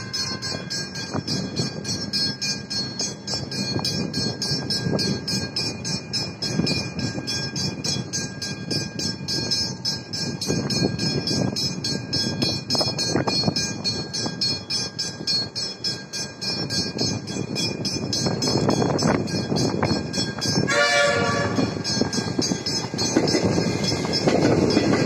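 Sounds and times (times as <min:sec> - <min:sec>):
passing train rumble: 0:00.0 - 0:25.0.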